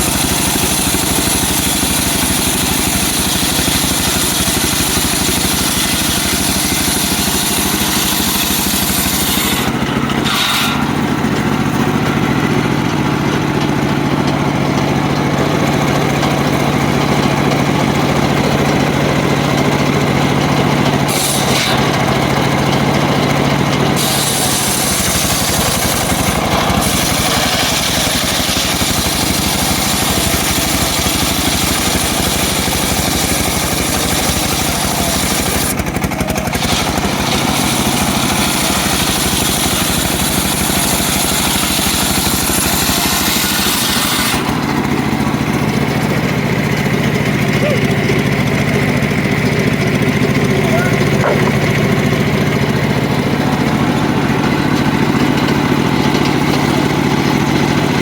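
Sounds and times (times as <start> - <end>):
sawmill running: 0.0 - 58.0.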